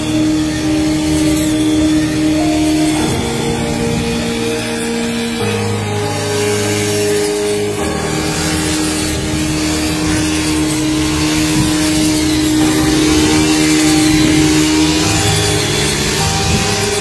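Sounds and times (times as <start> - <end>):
engine droning at high speed: 0.0 - 17.0.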